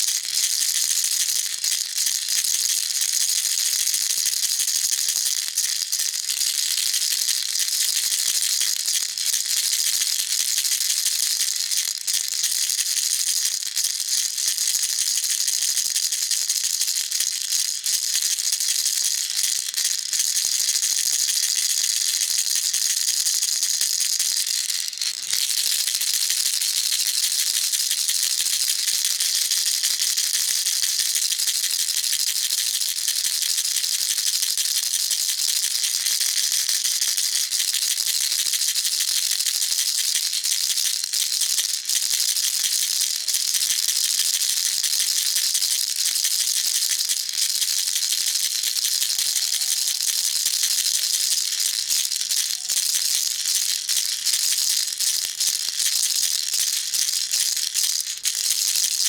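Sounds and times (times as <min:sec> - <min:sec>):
baby rattle shaken: 0:00.0 - 0:59.0.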